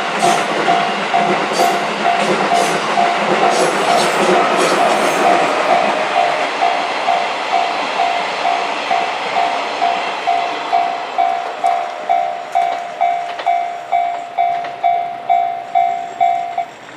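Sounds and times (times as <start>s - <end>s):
level-crossing alarm ringing: 0.0s - 16.9s
passing train noise: 0.0s - 16.9s.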